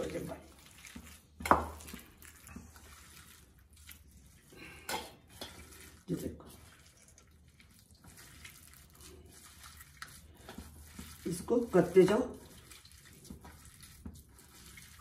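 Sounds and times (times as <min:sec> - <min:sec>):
potatoes being mashed by hand: 0:00.0 - 0:15.0.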